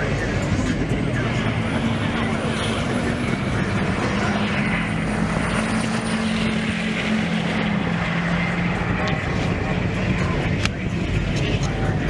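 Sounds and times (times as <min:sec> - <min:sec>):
pickup truck engines droning: 0:00.0 - 0:12.0.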